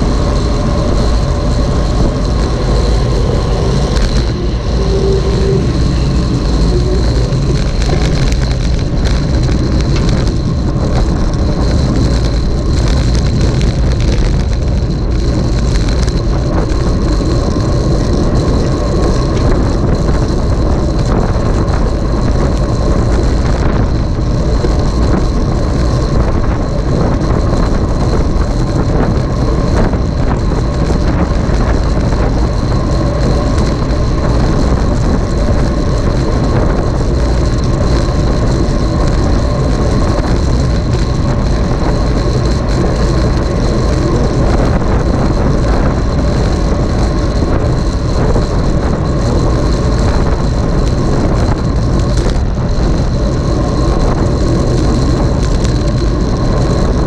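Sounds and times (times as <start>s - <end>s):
wind and road noise rushing: 0.0s - 57.0s.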